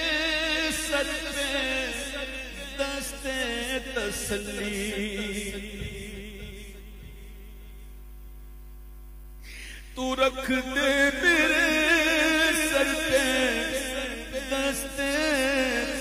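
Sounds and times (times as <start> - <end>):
man chanting devotional melody: 0.0 - 7.9, 9.4 - 16.0.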